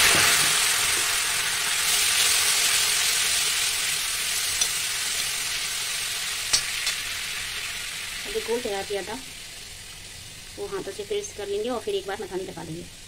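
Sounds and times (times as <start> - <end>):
hot oil sizzling and spitting: 0.0 - 13.0.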